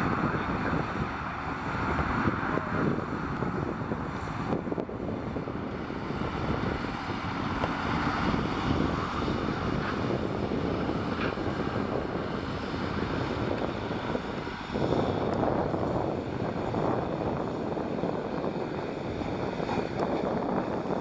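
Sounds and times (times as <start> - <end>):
steam locomotive roaring steadily: 0.0 - 21.0.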